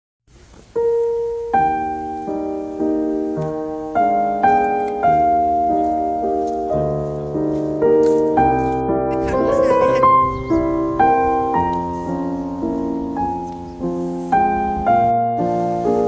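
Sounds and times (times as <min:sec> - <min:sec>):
piano playing slow chords: 0:00.7 - 0:16.0.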